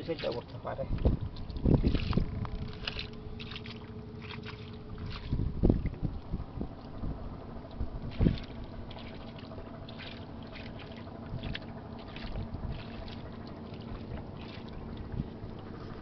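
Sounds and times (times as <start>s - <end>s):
hands squelching in wet mud: 0.0s - 6.1s, 8.1s - 16.0s.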